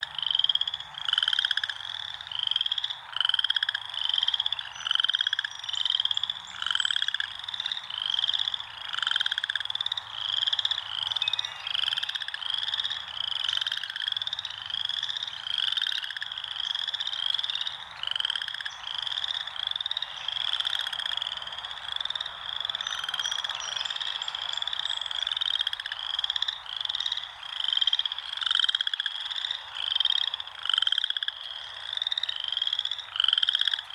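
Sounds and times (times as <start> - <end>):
frogs calling: 0.0 - 33.9.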